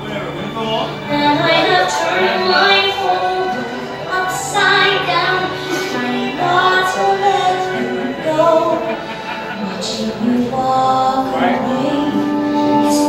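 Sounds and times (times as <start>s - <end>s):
band accompaniment: 0.0s - 13.0s
woman singing show tune: 1.0s - 13.0s.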